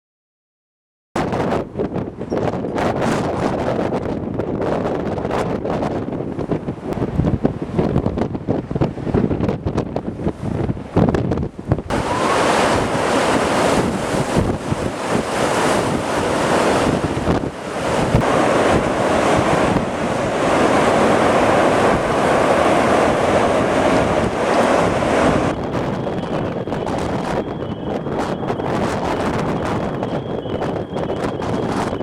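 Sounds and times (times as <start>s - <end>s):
wind buffeting microphone: 1.2s - 32.0s.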